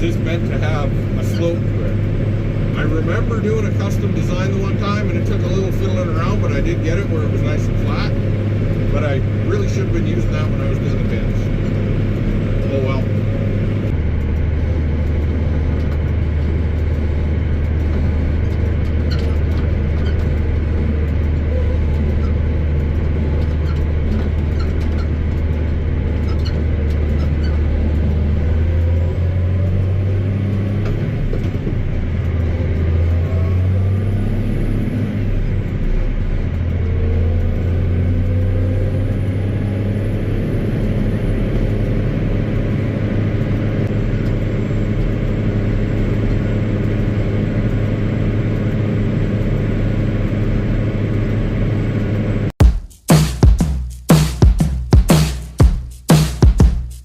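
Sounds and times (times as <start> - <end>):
tractor diesel engine drone: 0.0 - 52.6.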